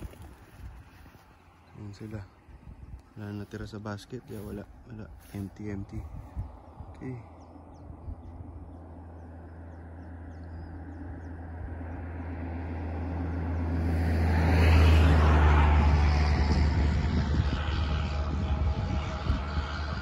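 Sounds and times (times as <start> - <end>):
vehicle passing on highway: 0.0 - 20.0.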